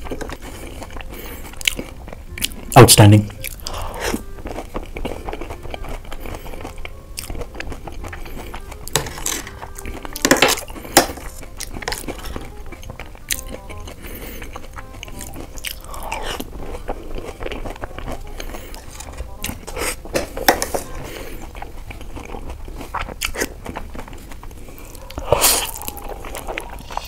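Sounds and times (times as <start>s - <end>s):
chewing crunchy food: 0.0s - 27.0s.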